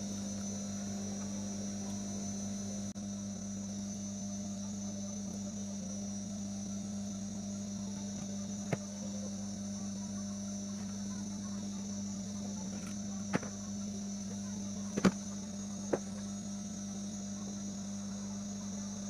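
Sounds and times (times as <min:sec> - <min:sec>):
electrical hum with high whine: 0:00.0 - 0:19.0.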